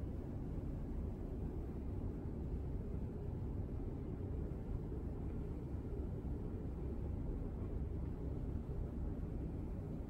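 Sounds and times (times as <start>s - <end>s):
low rumble of room noise: 0.0s - 10.0s.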